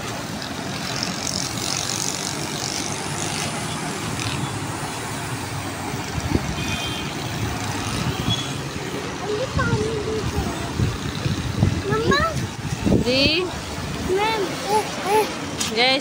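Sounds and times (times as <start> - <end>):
heavy construction machinery: 0.0 - 16.0
street traffic noise: 0.0 - 16.0.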